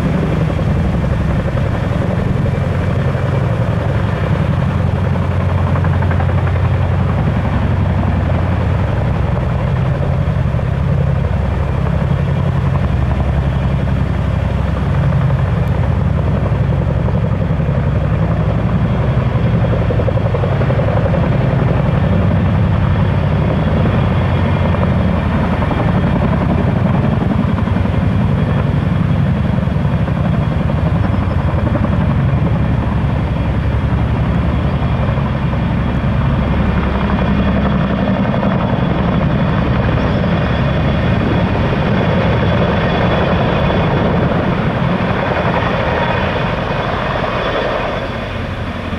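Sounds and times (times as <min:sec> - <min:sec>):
helicopter rotor beat: 0:00.0 - 0:48.9.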